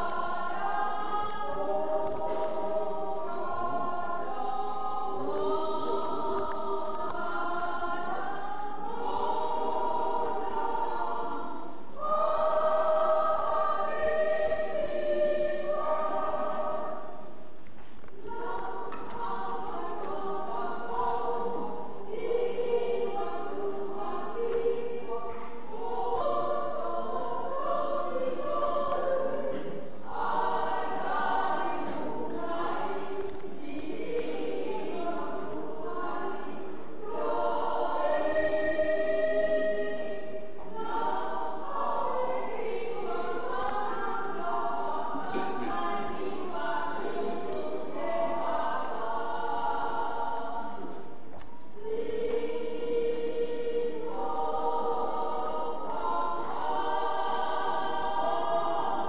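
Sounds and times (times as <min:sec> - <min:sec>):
voices singing together: 0:00.0 - 0:59.0.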